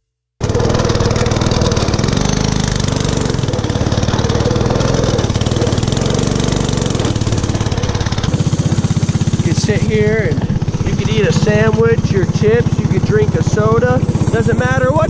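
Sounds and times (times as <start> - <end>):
small gasoline engine revving: 0.4 - 15.0.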